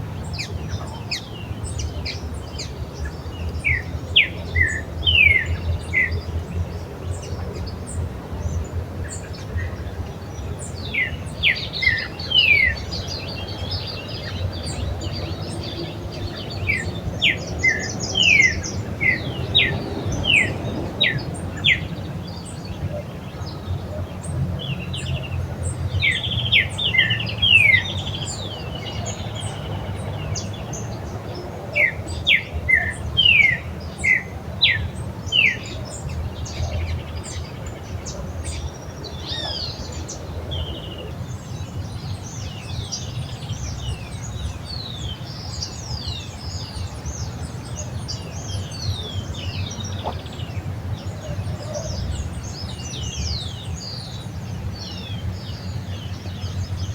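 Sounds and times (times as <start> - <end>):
songbirds whistling and trilling: 0.0 - 56.9.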